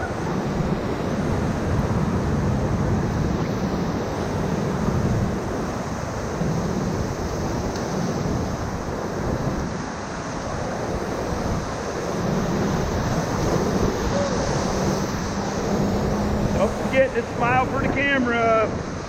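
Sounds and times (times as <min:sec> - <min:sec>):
river whitewater rushing: 0:00.0 - 0:19.0
wind noise on microphone: 0:00.0 - 0:19.0.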